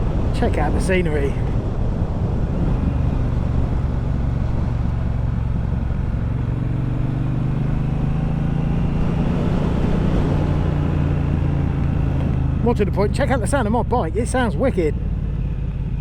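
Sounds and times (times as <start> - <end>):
motorcycle engine running: 1.5 - 16.0.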